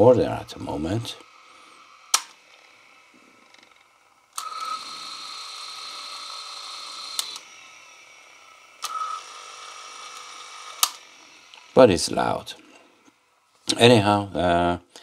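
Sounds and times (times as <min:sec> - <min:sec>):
tape motor whine: 0:00.0 - 0:13.5.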